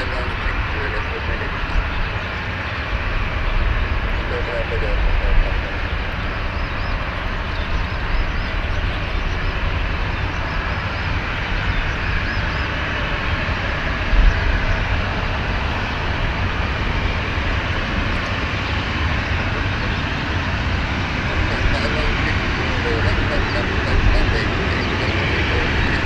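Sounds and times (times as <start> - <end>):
distant jet engines roaring: 0.0 - 26.0.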